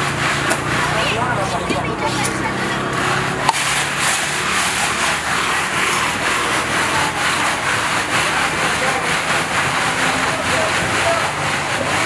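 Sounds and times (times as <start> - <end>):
metal pot grinding in ice: 0.0 - 12.0
paddle scraping metal wall: 0.0 - 12.0.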